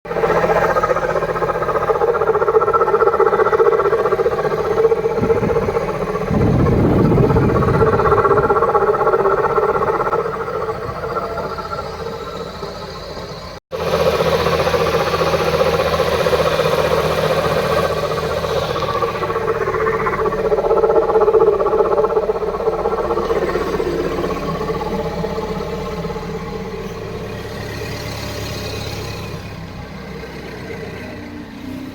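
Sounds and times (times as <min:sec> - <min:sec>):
car engine running with weird noise: 0:00.0 - 0:31.9
deeper engine rumble: 0:00.0 - 0:31.9.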